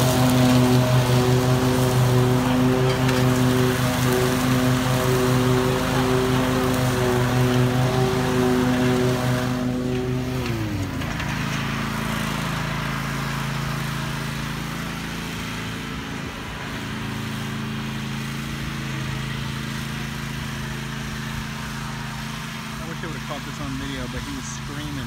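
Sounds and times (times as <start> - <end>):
riding lawn mower engine running: 0.0 - 25.0.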